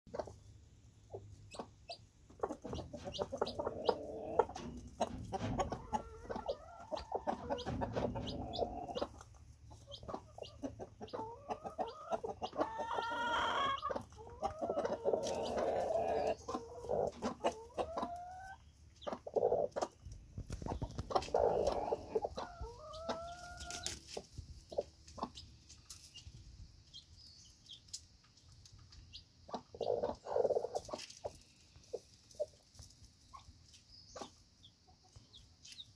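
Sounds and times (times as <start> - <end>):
hen clucking softly: 0.1 - 25.9, 28.3 - 32.7.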